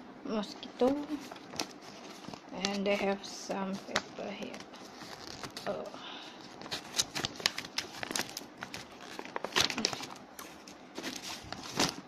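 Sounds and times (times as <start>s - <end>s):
packing paper crinkling: 0.8s - 12.0s.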